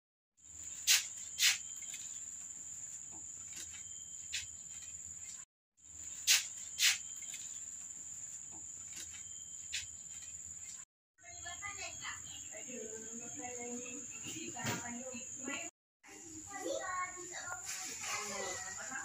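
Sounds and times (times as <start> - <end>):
insects droning: 0.4 - 19.0.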